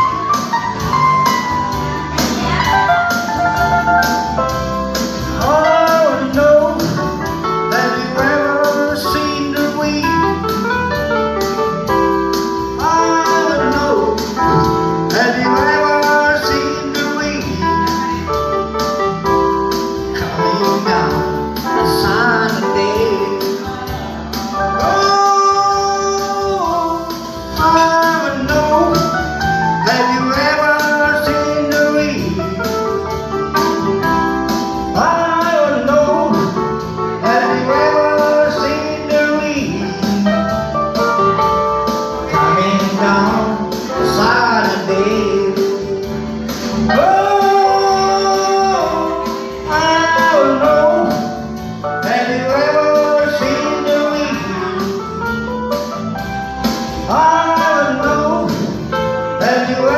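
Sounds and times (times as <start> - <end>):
guitar accompaniment: 0.0 - 59.9
man singing into a microphone: 4.5 - 18.8, 19.8 - 33.0, 34.5 - 40.7, 42.1 - 55.5, 57.0 - 59.9.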